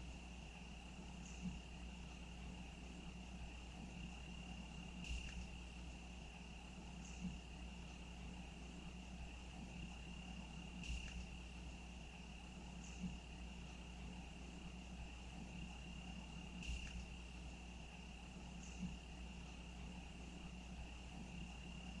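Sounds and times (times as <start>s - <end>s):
cricket trilling: 0.0s - 22.0s
faint low rumble: 0.0s - 22.0s.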